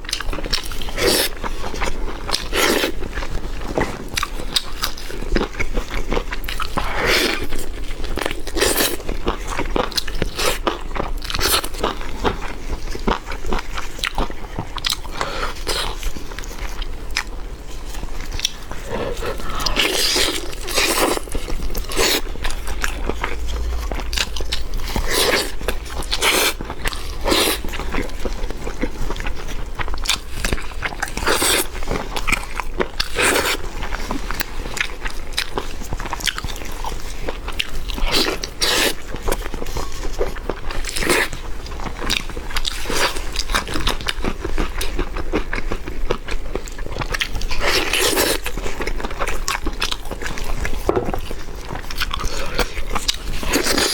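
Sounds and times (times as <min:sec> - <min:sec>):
crisp food crunching: 0:00.1 - 0:53.9.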